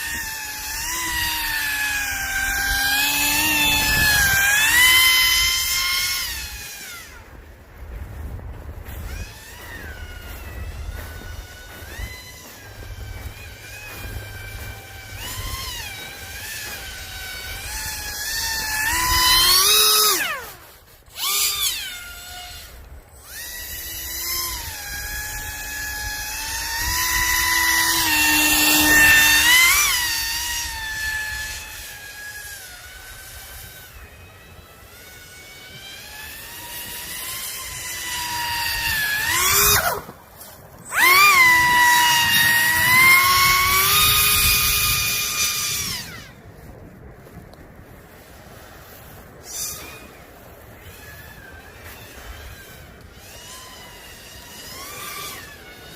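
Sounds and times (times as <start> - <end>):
electric motor and fan whining: 0.0 - 55.9.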